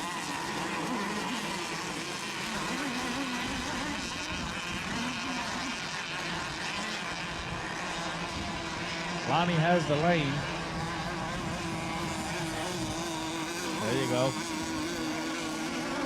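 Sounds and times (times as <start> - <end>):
small boat engines buzzing: 0.0 - 16.0.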